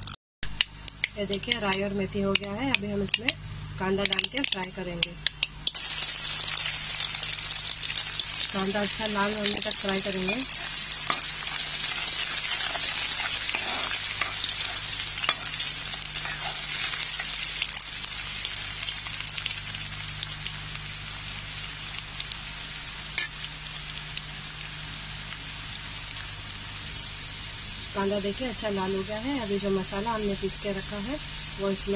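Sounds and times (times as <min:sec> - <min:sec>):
onions sizzling in hot oil: 0:05.6 - 0:31.9.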